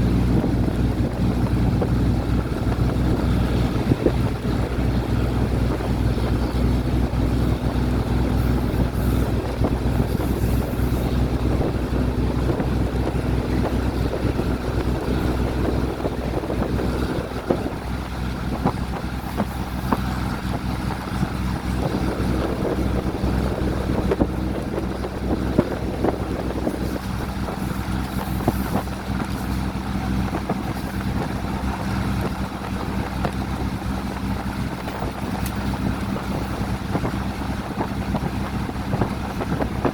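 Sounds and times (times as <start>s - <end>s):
diesel train rumbling: 0.0s - 39.9s.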